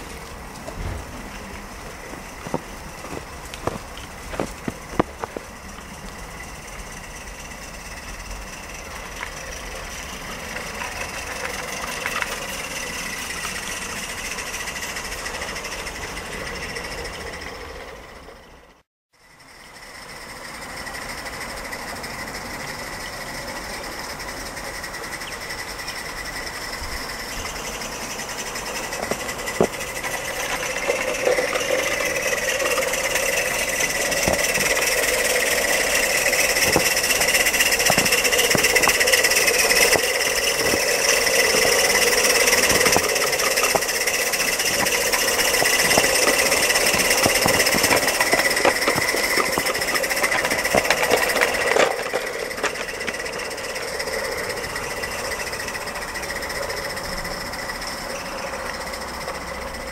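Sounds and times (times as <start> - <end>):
steam hiss: 0.0 - 18.4, 19.2 - 59.9
rapid mechanical clatter: 0.0 - 59.9.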